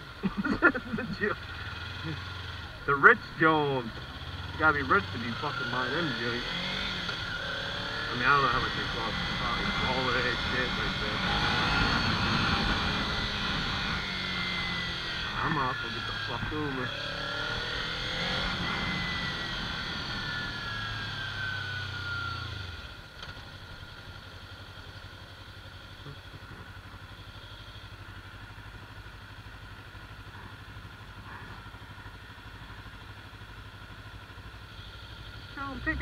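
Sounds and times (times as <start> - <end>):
motorcycle engine slowing to idle: 0.0 - 17.7, 18.6 - 36.0.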